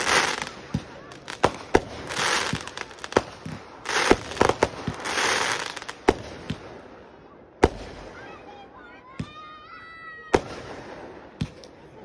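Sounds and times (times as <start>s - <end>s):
firework bangs: 0.0s - 8.3s, 10.3s - 11.6s
hissing crackle of fireworks: 0.0s - 8.7s, 10.3s - 12.0s.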